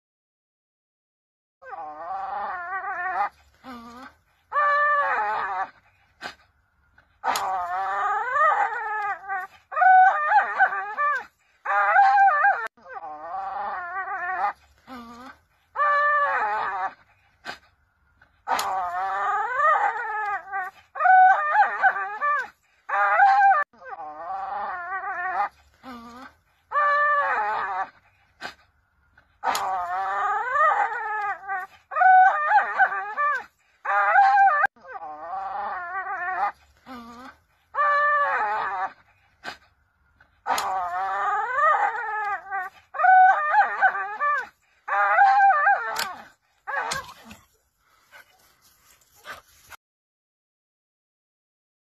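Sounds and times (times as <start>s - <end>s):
dog howling: 1.6s - 6.0s, 7.2s - 17.3s, 18.4s - 28.4s, 29.2s - 39.6s, 40.2s - 47.5s.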